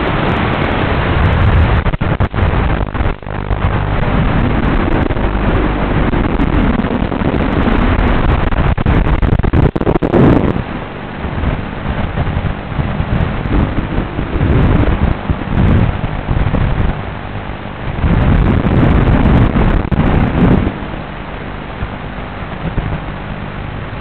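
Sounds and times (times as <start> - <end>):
drone motors and wind rushing: 0.0 - 24.0.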